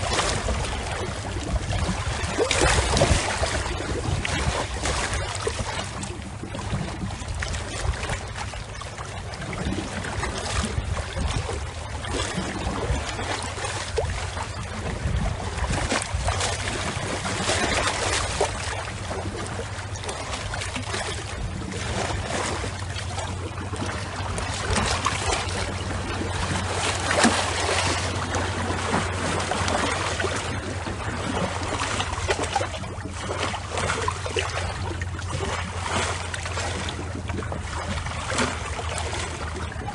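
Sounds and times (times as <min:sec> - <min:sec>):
steady low hum: 0:00.0 - 0:39.9
water lapping and splashing: 0:00.0 - 0:39.9.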